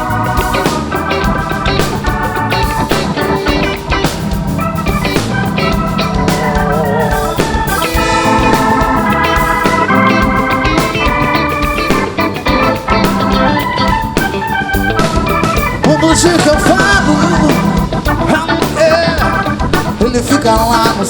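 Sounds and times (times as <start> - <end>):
electric organ chords: 0.0 - 21.0
guitar: 0.0 - 21.0
steady drum beat: 0.0 - 21.0.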